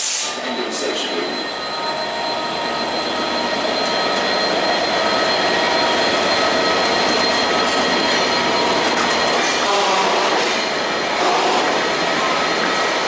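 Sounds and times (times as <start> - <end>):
faint high whining tones: 0.4 - 13.0
wheel and rail noise: 1.0 - 13.0.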